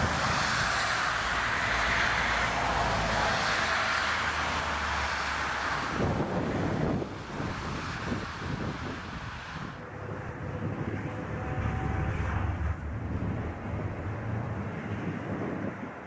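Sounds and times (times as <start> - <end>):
wind buffeting microphone: 0.0 - 3.4, 5.7 - 16.0
jet engines running: 0.0 - 16.0.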